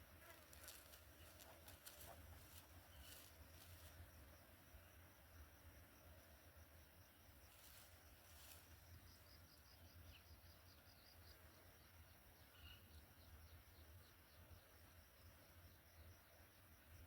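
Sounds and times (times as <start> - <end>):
faint insect chirping: 0.0 - 17.0.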